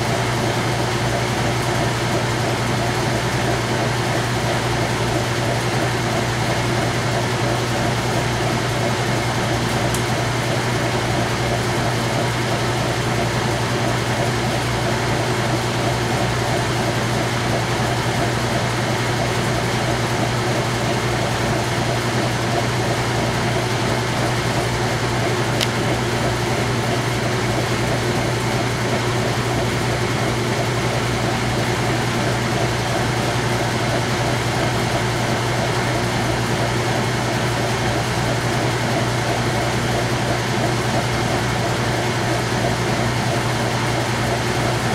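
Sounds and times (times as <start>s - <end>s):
washing machine spinning: 0.0s - 44.9s.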